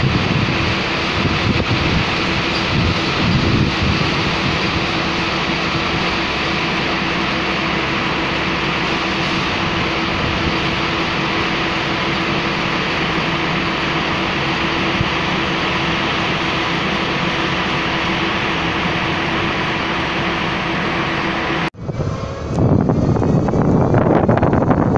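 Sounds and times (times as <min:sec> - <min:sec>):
constant hum: 0:00.0 - 0:24.9
train running steadily: 0:00.0 - 0:24.9.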